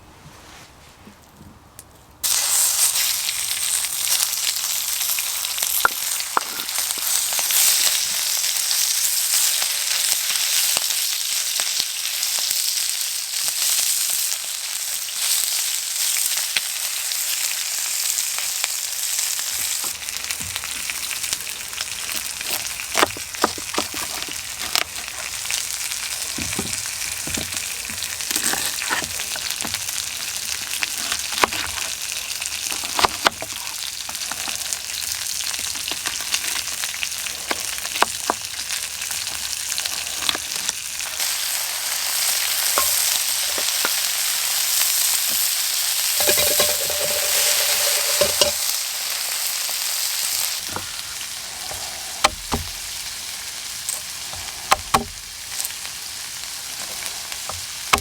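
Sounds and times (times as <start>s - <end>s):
stir-fry sizzling in a pan: 2.2s - 58.0s.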